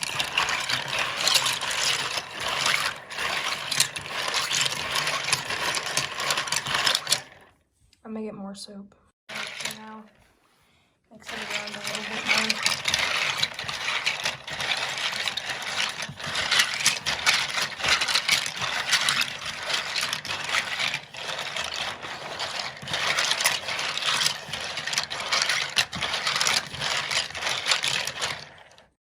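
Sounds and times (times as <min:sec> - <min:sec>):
plastic keycaps clattering in water: 0:00.0 - 0:07.4, 0:09.3 - 0:10.0, 0:11.2 - 0:28.9.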